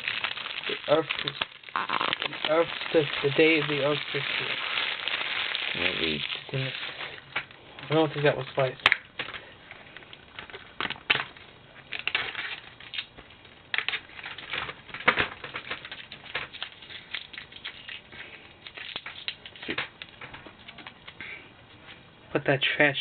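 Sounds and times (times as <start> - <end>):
plastic packaging crinkling: 0.0 - 21.2.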